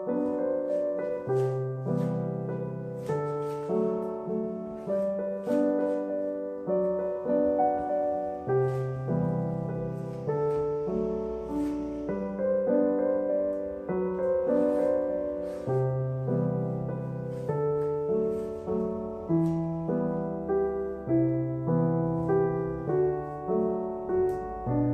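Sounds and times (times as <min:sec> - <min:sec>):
soft piano music: 0:00.0 - 0:24.9.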